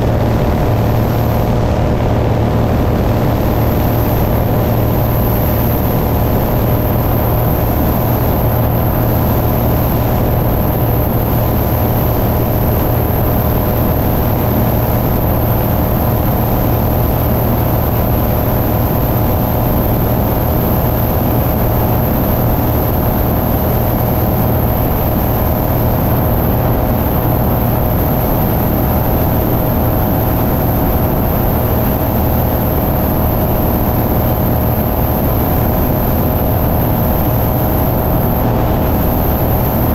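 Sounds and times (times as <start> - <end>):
aircraft engine and propeller drone: 0.0 - 39.9
wind rushing over microphone: 0.0 - 39.9.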